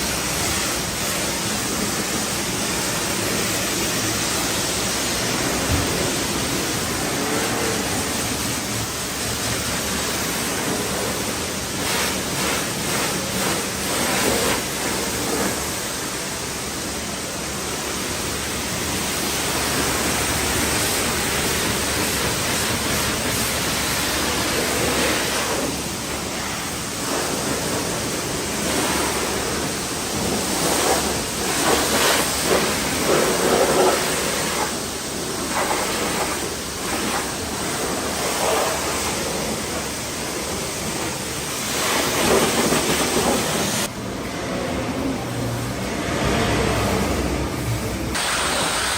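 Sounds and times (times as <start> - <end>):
pressure washer spraying water: 0.0 - 48.9.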